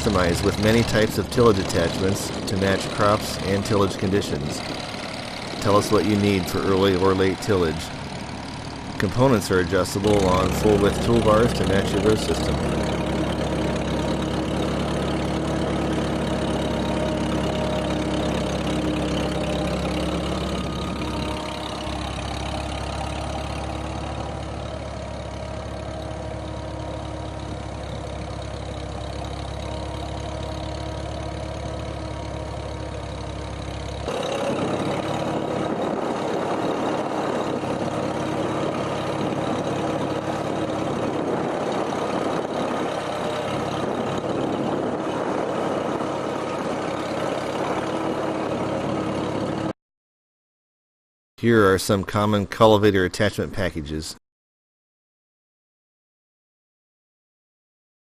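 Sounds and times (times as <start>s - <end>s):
tractor engine running: 0.0s - 49.8s.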